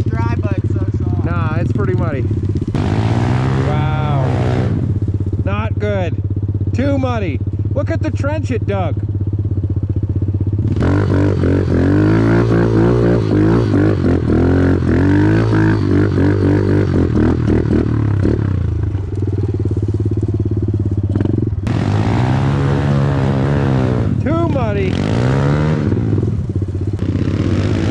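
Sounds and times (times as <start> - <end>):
off-road vehicle engine revving: 0.0 - 9.1, 10.3 - 27.9
engine idling hum: 0.0 - 27.9.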